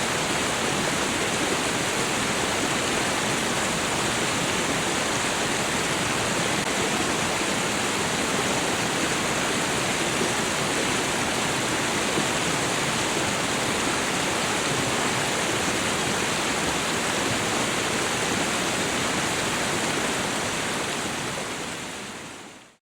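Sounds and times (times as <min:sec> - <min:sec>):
fast-running stream: 0:00.0 - 0:22.8
small waterfall rushing: 0:00.0 - 0:22.8.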